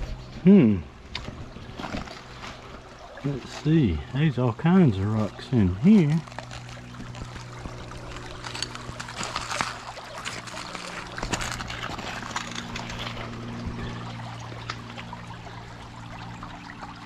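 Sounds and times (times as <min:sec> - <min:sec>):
creek water trickling over stones: 0:00.0 - 0:17.0.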